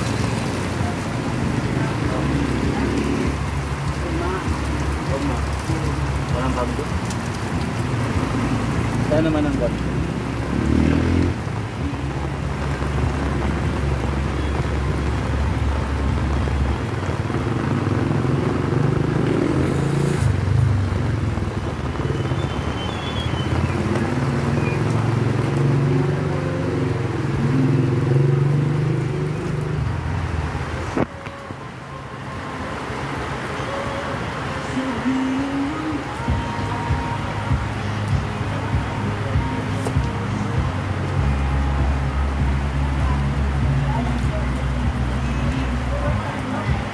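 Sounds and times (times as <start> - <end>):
motorcycle engines rumbling: 0.0 - 31.2, 34.2 - 46.9
heavy rain hissing: 0.0 - 46.9.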